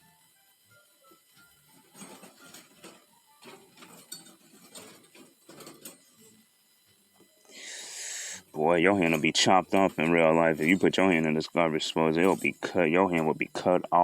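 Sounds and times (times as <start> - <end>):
small mechanical clicking and rattling: 0.2 - 7.3, 8.4 - 14.0.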